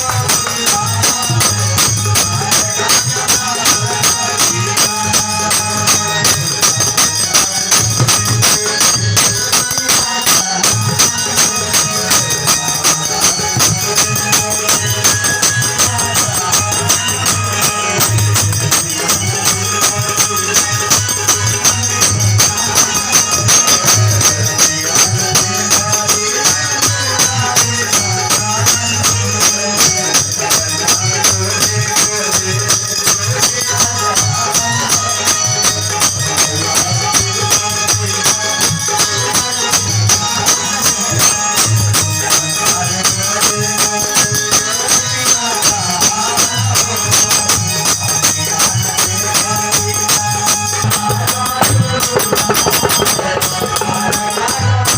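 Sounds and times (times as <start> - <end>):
drum beats: 0.0 - 54.9
jingling tambourine percussion: 0.0 - 54.9.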